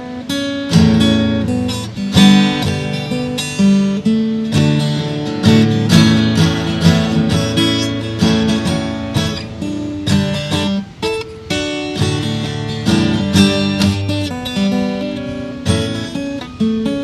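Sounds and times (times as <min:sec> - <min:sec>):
acoustic guitar strummed and picked: 0:00.0 - 0:17.0.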